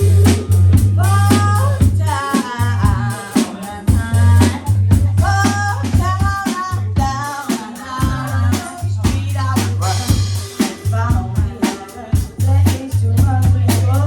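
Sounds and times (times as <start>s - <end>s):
deep bass line: 0.0s - 7.4s, 8.0s - 11.6s, 12.2s - 14.0s
drum kit beat: 0.0s - 14.0s
person singing: 0.0s - 14.0s.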